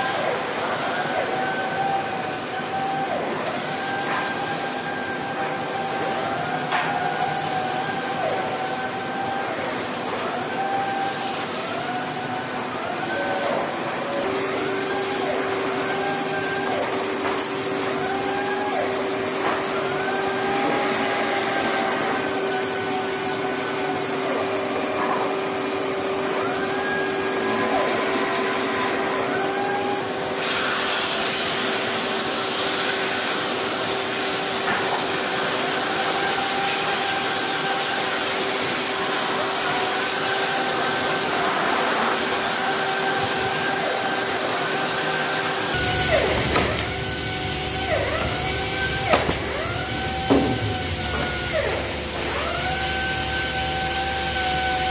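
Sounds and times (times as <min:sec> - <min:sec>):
woodworking machines running: 0:00.0 - 0:54.9.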